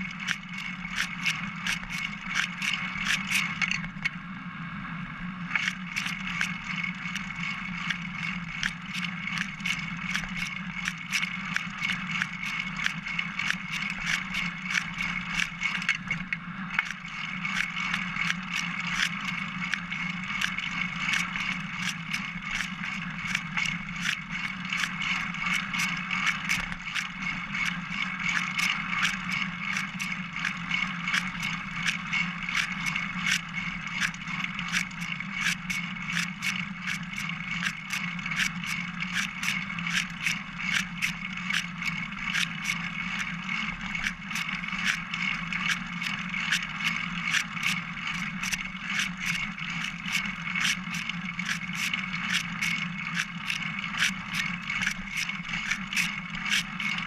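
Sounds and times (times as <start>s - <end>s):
bicycle clicks and rattles: 0.0s - 4.2s, 5.5s - 57.0s
bicycle rolling hum: 0.0s - 57.0s.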